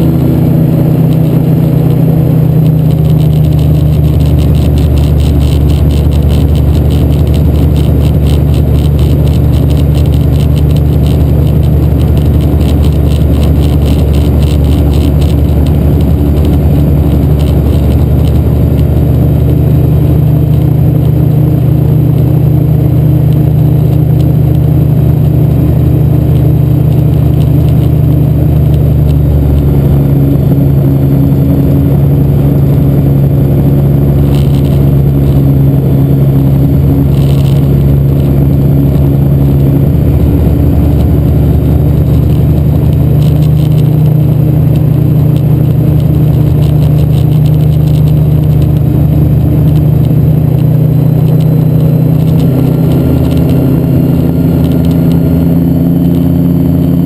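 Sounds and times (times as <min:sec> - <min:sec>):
fast pulsing flutter: 0:00.0 - 0:57.0
gyroplane engine and rotor: 0:00.0 - 0:57.0.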